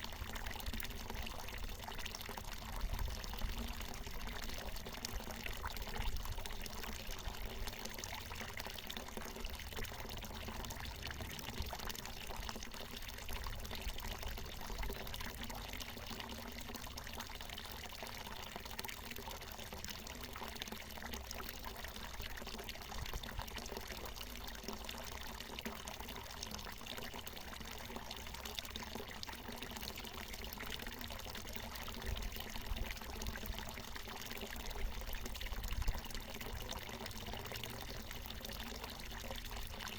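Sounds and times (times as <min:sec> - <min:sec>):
spring water pouring and splashing: 0:00.0 - 0:39.9.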